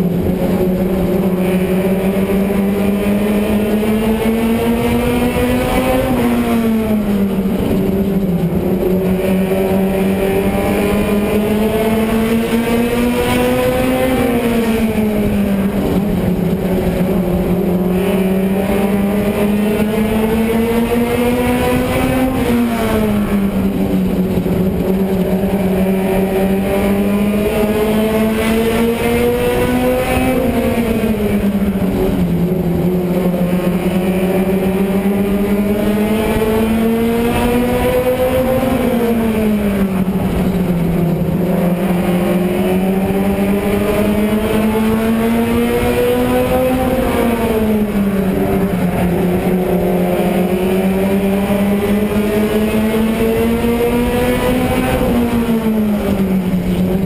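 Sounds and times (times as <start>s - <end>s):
race car engine at full throttle: 0.0s - 57.0s.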